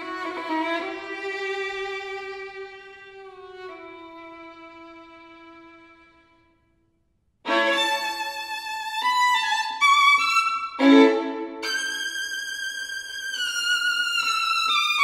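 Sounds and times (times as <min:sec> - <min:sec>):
solo violin: 0:00.0 - 0:06.6, 0:07.4 - 0:15.0.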